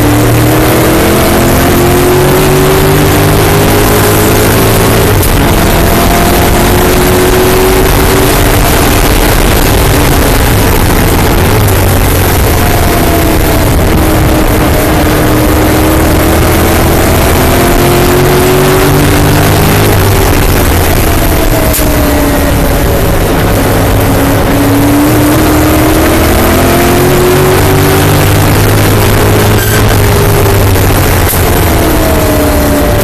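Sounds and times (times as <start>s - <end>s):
racing car engine under hard use: 0.0s - 33.0s
road and wind noise: 0.0s - 33.0s.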